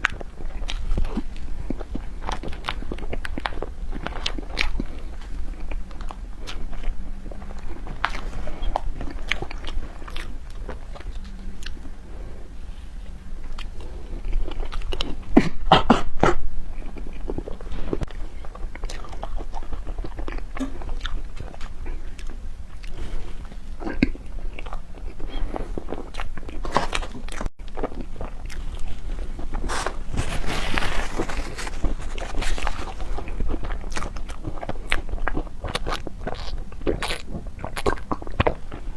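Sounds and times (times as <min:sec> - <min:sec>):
chewing and biting dessert: 0:00.0 - 0:38.9.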